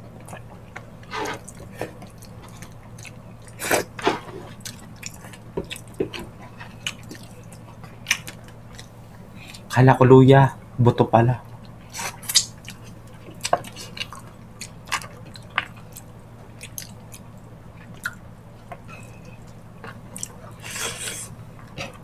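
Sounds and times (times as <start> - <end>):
chewing and wet mouth sounds: 0.2 - 9.8, 11.6 - 22.0.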